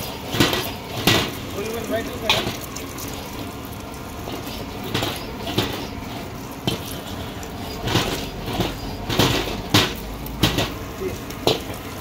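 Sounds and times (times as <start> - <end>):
eggs sizzling in oil: 0.0 - 12.0
ladle scraping and knocking wok: 0.0 - 12.0.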